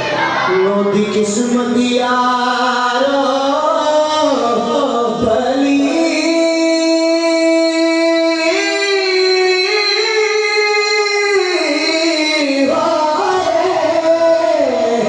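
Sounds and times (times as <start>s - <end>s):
person singing devotional verse: 0.2s - 15.0s.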